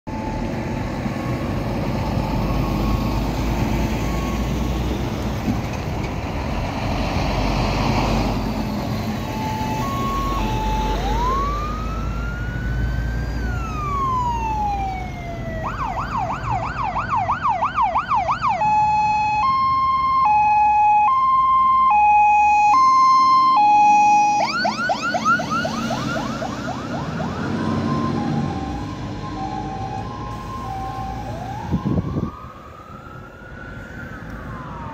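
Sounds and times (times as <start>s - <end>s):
diesel traffic rumbling: 0.1s - 34.9s
fire engine siren: 0.1s - 34.9s.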